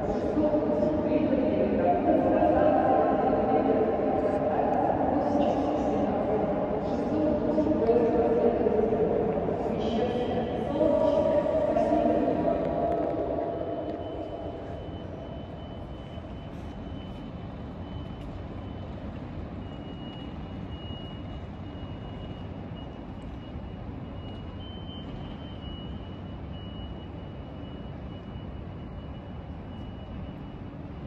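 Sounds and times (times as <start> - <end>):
train platform rumble: 0.0 - 31.0.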